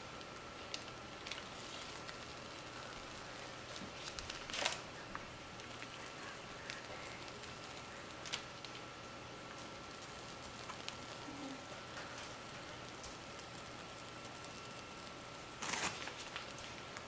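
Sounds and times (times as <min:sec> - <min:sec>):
plastic piping bag crinkling: 0:00.0 - 0:17.0.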